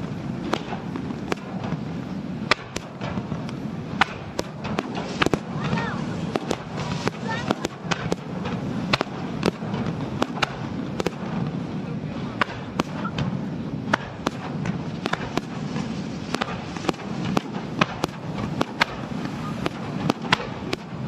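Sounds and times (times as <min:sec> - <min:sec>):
crowd murmur: 0:00.0 - 0:21.0
fireworks cracking: 0:00.0 - 0:21.0.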